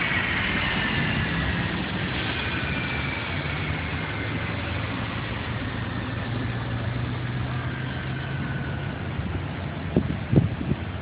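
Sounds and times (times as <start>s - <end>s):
helicopter turbine engine running: 0.0s - 11.0s.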